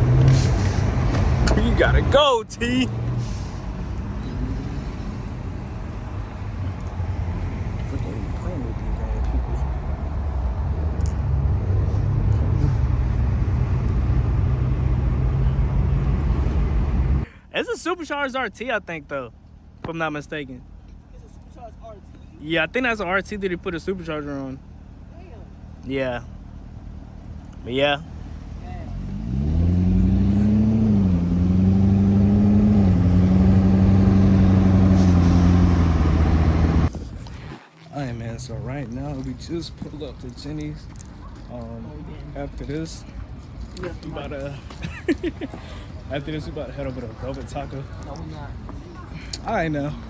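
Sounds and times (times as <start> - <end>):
car engine rumble: 0.0 - 50.0
road noise: 0.0 - 50.0.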